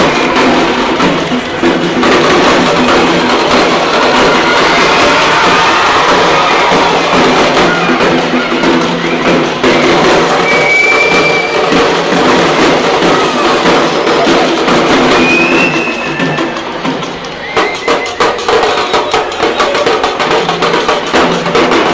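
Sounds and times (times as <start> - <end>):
frame drum ensemble playing: 0.0 - 21.9.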